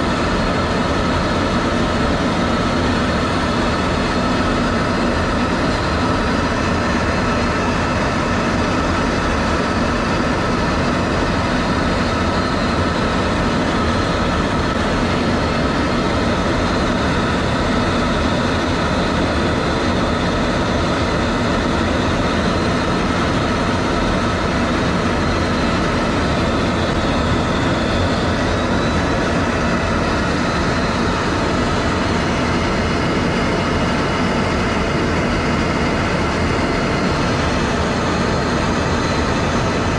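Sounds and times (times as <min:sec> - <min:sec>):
machinery noise: 0:00.0 - 0:39.9.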